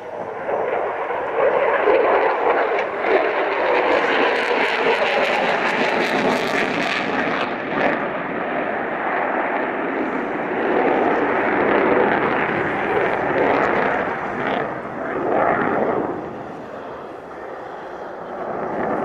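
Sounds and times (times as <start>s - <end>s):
loud jet engine roar: 0.0s - 19.0s.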